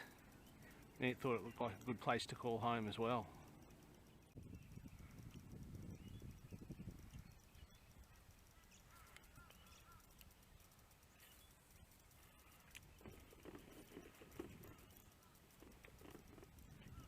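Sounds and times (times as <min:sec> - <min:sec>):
faint chirps: 0:00.0 - 0:17.0.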